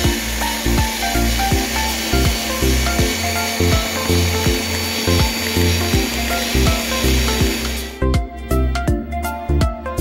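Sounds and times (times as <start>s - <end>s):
electric mixer whining: 0.0s - 8.2s
background music with beat: 0.0s - 10.0s.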